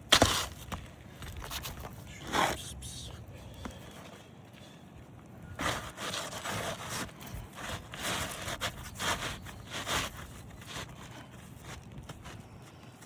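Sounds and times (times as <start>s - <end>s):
scraping and rustling strokes: 0.0s - 3.1s, 5.5s - 13.0s.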